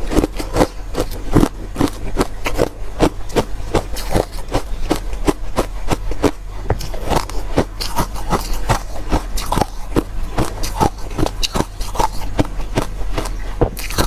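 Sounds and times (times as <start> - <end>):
chewing ice crunches: 0.0 - 14.0.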